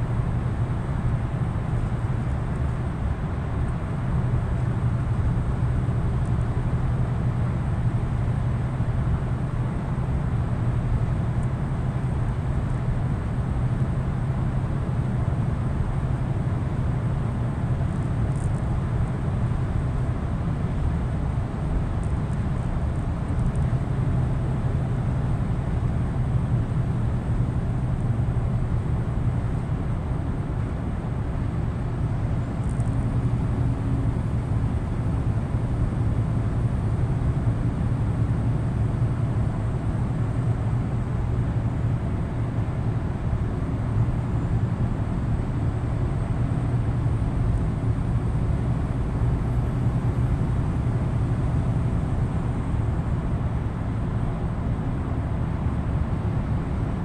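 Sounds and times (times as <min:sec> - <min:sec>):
truck diesel engine cruising: 0:00.0 - 0:57.0.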